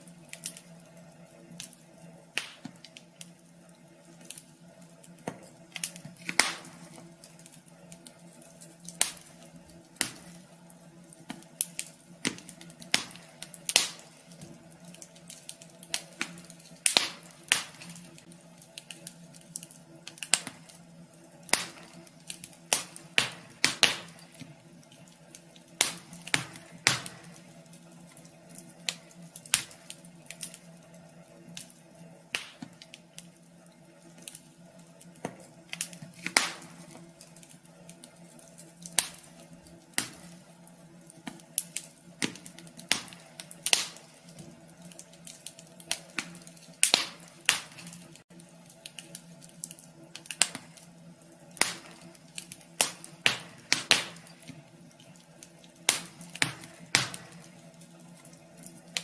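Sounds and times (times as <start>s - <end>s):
faint steady hum: 0.0s - 59.0s
wood fire crackling: 0.0s - 59.0s.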